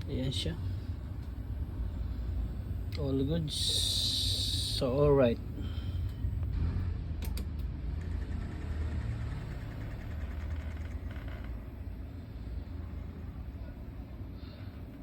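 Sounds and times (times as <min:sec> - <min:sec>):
low rumble like engine idling: 0:00.0 - 0:08.3, 0:09.2 - 0:15.0.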